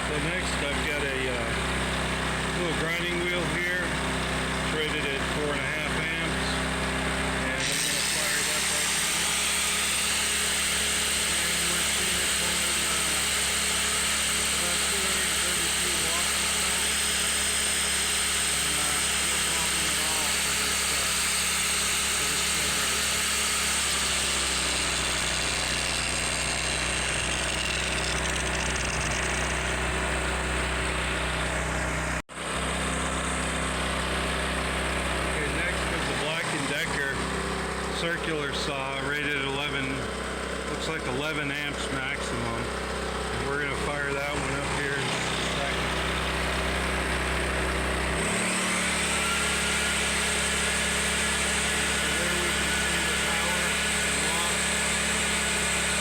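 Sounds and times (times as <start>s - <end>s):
electric grinder spinning: 0.0s - 56.0s
generator engine running: 0.0s - 56.0s
high motor whine: 0.0s - 56.0s.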